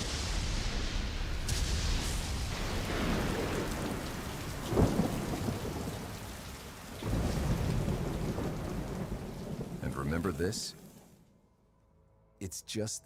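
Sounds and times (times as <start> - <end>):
rumbling thunder: 0.0 - 11.0
sharp thunderclap: 0.0 - 11.1
heavy rain: 0.0 - 11.3.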